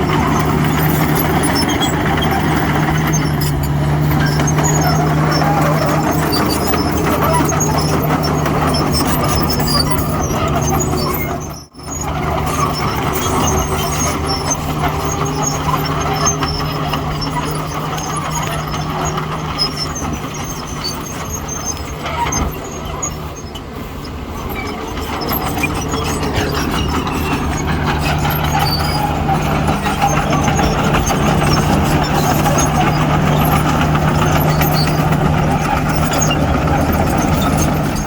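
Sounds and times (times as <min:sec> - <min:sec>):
heavy diesel machinery running: 0:00.0 - 0:38.0
metallic squeaks and clanks: 0:00.0 - 0:38.0.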